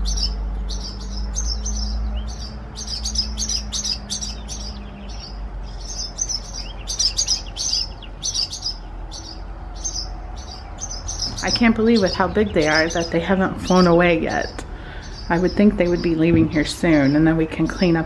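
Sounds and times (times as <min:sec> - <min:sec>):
birds chirping rapidly: 0:00.0 - 0:18.0.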